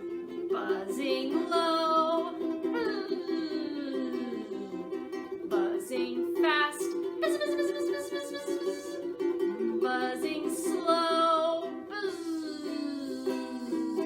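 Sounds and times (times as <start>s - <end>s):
person singing: 0.0s - 14.0s
ukulele strumming: 0.0s - 14.0s.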